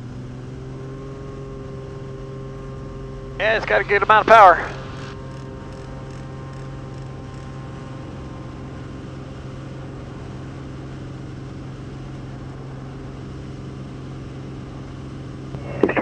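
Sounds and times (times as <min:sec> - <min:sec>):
airplane engine low drone: 0:00.0 - 0:16.0.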